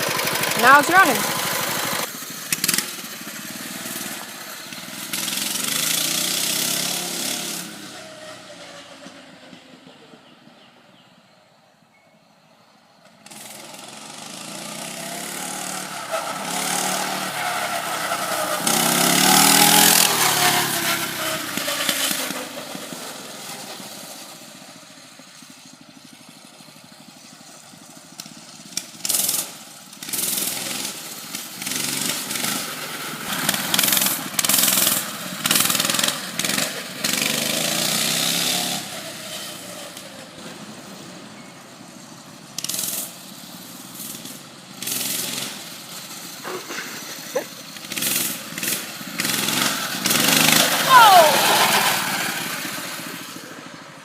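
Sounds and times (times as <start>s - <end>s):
mini bike engine revving: 0.0s - 10.2s, 13.2s - 54.0s.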